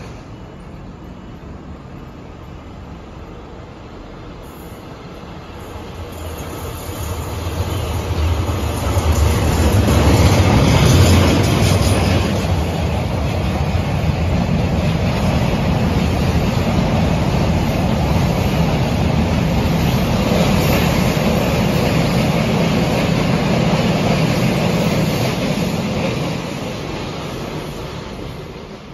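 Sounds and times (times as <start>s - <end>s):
electric train passing: 0.0s - 28.9s
train wheels rumbling on rails: 0.0s - 28.9s.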